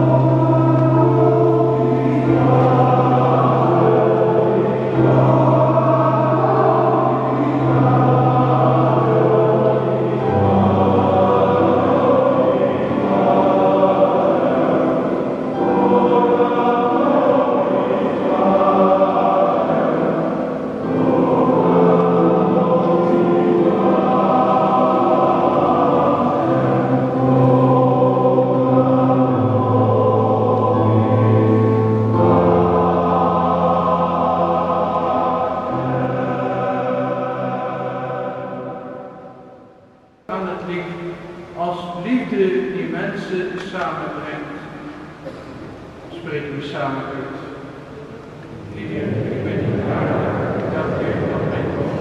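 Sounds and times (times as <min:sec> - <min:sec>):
men's choir singing: 0:00.0 - 0:41.5, 0:46.8 - 0:52.0
piano accompaniment: 0:00.0 - 0:47.0.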